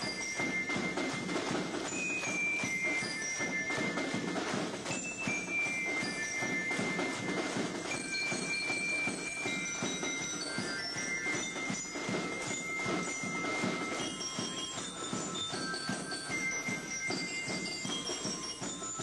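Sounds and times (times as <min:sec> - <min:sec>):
drum beat: 0:00.0 - 0:19.0
marching band playing: 0:00.0 - 0:19.0
ringing bell notes: 0:00.0 - 0:19.0.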